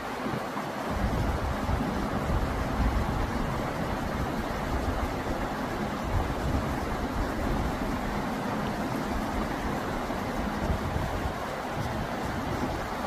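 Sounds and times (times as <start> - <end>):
mountain stream running: 0.0 - 13.0.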